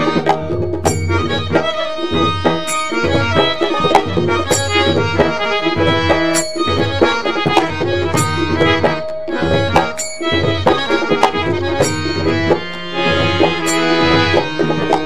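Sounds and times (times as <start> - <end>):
harmonium holding chords: 0.0 - 15.0
small brass hand cymbals: 0.0 - 15.0
tabla strokes: 0.0 - 15.0.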